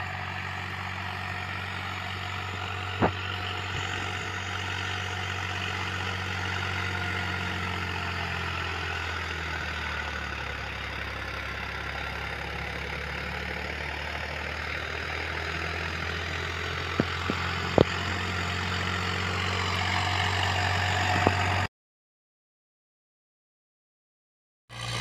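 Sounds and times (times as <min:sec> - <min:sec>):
tractor diesel engine running: 0:00.0 - 0:21.7, 0:24.7 - 0:25.0.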